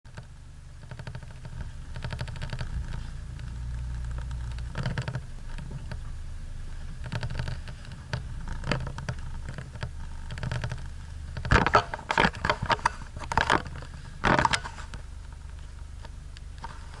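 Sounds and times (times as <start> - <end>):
vehicle rattling over bumps: 0.1 - 16.0
engine running low: 0.1 - 17.0.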